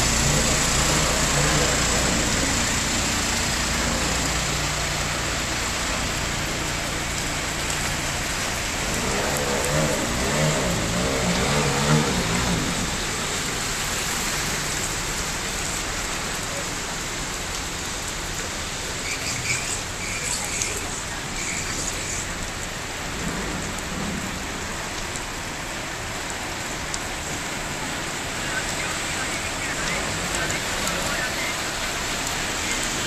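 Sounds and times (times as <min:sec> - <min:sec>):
rain falling on water: 0:00.0 - 0:33.0.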